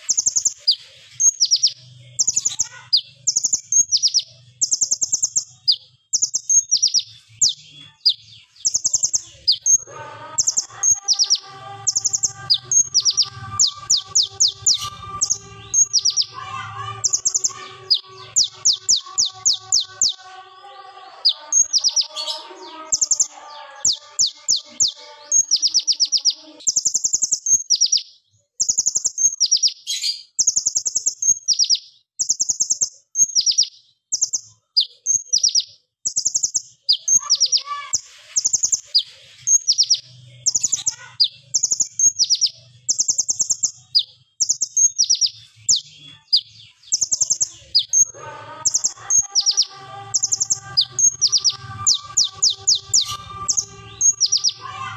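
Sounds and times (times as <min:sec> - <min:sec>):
sunbird singing rapid trills: 0:00.0 - 0:09.8, 0:10.4 - 0:28.0, 0:28.6 - 0:54.7.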